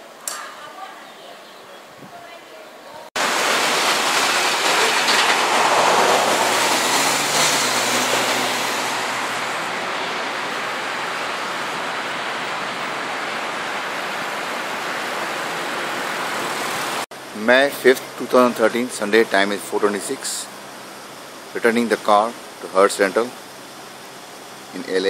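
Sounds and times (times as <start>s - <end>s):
wind: 0.0s - 25.0s
road traffic rushing: 3.1s - 25.0s.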